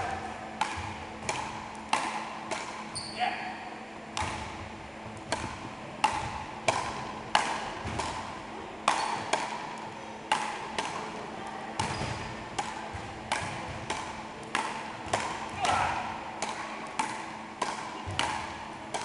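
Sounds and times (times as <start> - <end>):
wooden paddles hitting ball: 0.0 - 3.1, 4.1 - 11.2, 11.8 - 19.0.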